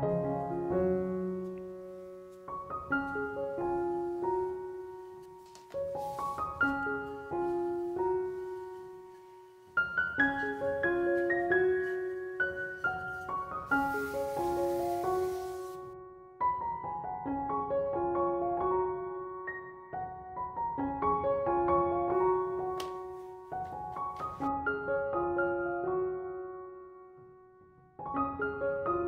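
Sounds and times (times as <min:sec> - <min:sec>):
solo piano melody: 0:00.0 - 0:29.0.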